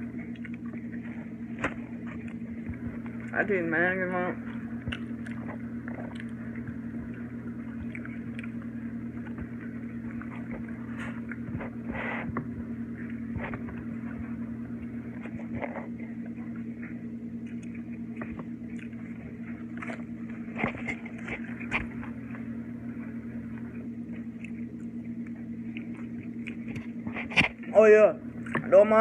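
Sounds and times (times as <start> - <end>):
clothes dryer humming: 0.0 - 29.0.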